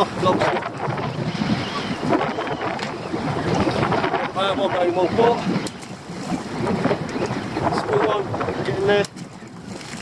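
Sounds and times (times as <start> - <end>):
choppy sea water: 0.0 - 10.0
wind buffeting microphone: 0.0 - 10.0.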